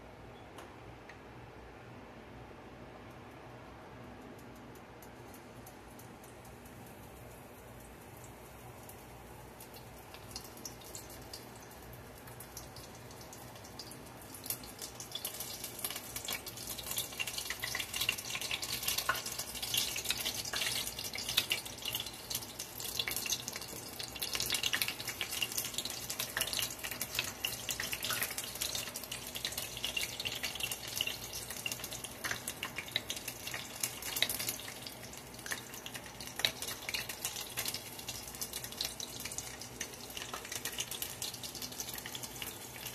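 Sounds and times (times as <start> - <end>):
onion rings deep-frying in oil: 4.2 - 42.9.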